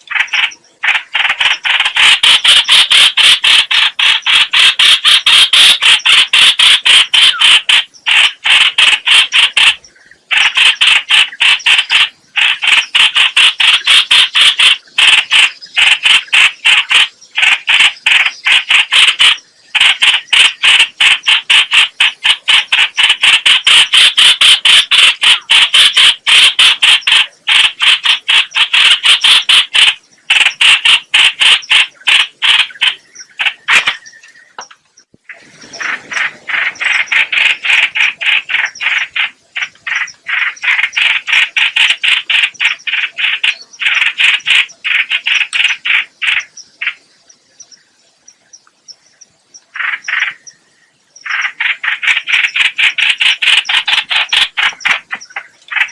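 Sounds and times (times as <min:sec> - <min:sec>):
harsh chattering bird calls: 0:00.0 - 0:55.9.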